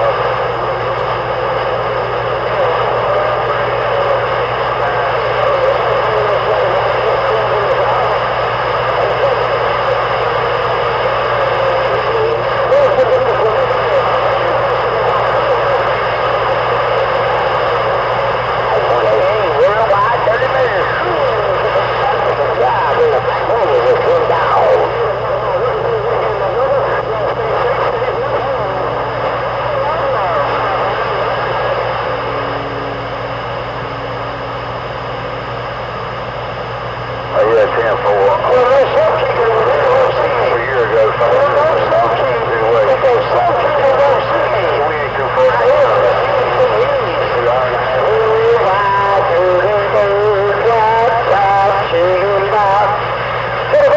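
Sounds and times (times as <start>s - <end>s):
faint garbled radio voices: 0.0s - 53.9s
radio static hiss: 0.0s - 53.9s
steady hum: 0.0s - 53.9s.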